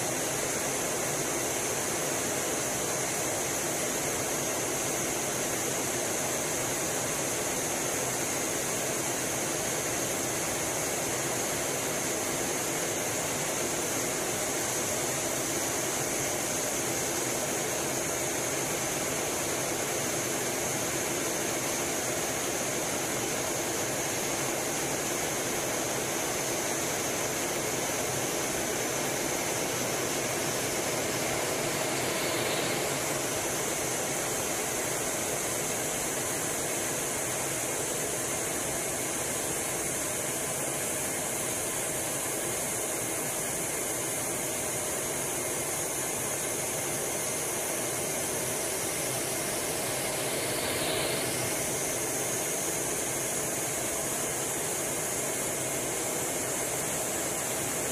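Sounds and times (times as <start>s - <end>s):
jet cockpit engine and airflow: 0.0s - 57.9s.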